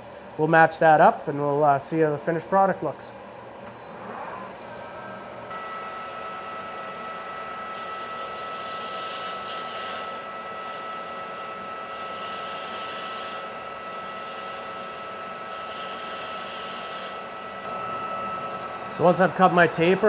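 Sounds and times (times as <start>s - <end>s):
metal lathe motor whine: 3.6s - 20.0s.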